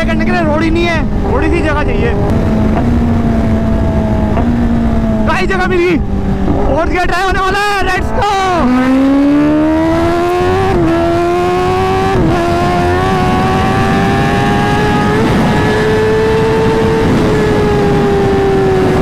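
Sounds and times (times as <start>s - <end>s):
motorcycle engine at full throttle: 0.0s - 19.0s
wind rushing: 0.0s - 19.0s.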